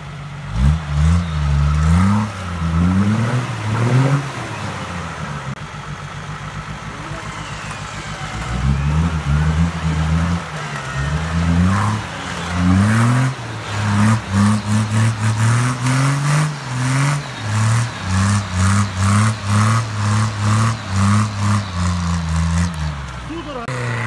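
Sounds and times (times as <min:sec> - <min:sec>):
engine revving: 0:00.0 - 0:24.0
vehicle churning through mud: 0:00.0 - 0:24.0.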